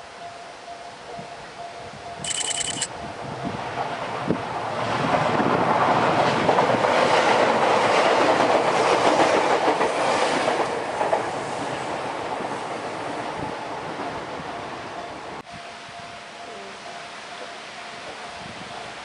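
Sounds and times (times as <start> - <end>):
train passing: 1.4 - 19.0.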